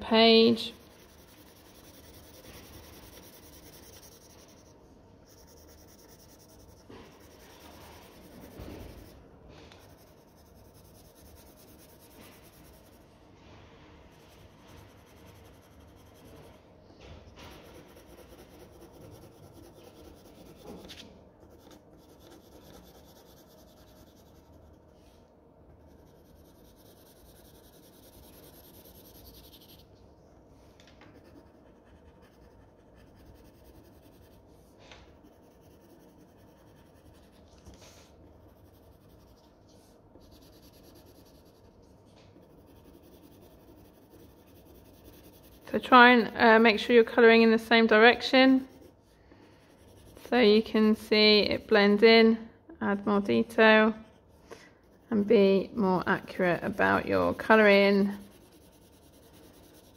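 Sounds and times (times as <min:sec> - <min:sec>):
pencil scratching on paper: 0:00.0 - 0:13.1, 0:14.0 - 0:16.6, 0:17.3 - 0:29.9, 0:31.0 - 0:51.9, 0:53.3 - 0:59.9.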